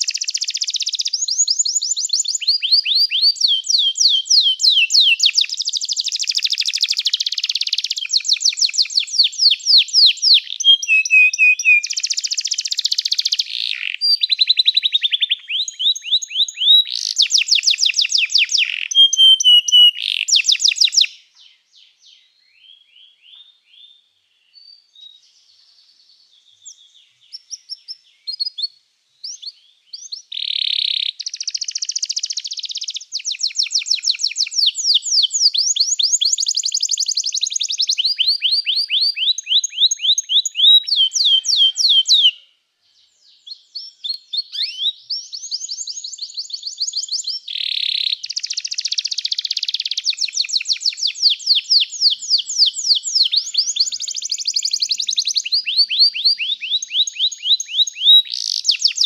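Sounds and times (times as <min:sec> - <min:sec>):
canary singing trills: 0:00.0 - 0:25.4, 0:26.6 - 0:42.5, 0:43.2 - 0:59.0.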